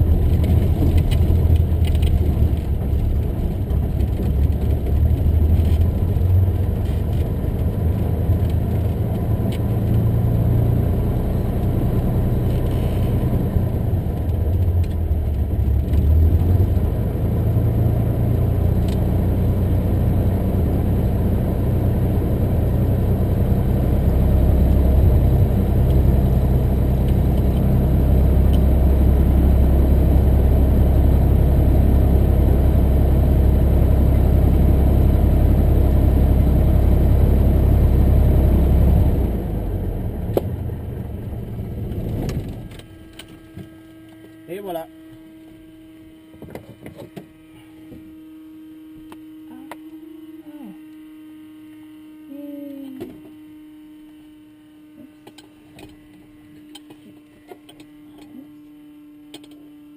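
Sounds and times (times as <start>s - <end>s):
small plane engine and propeller: 0.0s - 59.9s.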